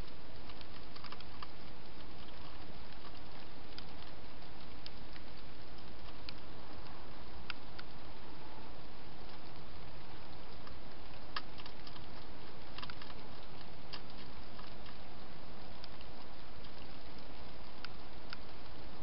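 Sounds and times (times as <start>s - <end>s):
hedgehog crunching food: 0.0s - 8.1s, 9.2s - 19.0s
steady hiss: 0.0s - 19.0s.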